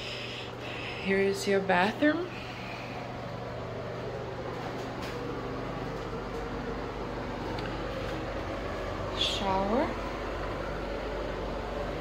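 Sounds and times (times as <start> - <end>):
ventilation hum: 0.0 - 12.0.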